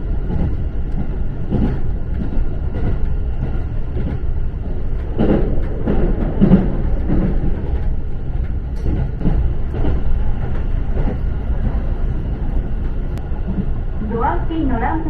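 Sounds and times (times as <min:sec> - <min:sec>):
train rumbling from inside: 0:00.0 - 0:15.0.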